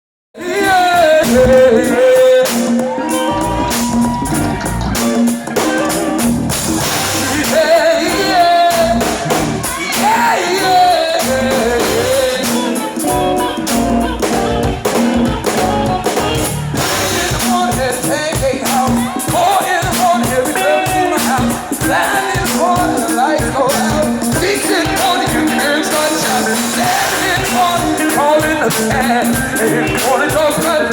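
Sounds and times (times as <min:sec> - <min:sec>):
person singing lead vocals: 0:00.4 - 0:16.2, 0:16.8 - 0:30.9
bass: 0:00.4 - 0:30.9
drums: 0:00.4 - 0:30.9.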